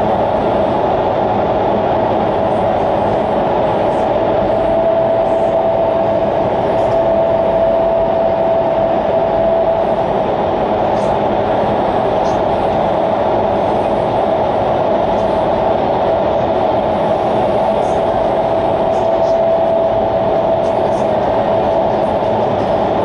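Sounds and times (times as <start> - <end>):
steady tone: 0.0 - 23.0
wind tunnel airflow rushing: 0.0 - 23.0.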